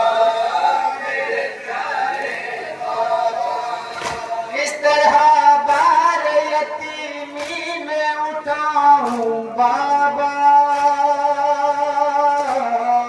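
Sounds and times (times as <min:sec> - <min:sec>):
men singing a lament over loudspeaker: 0:00.0 - 0:13.0.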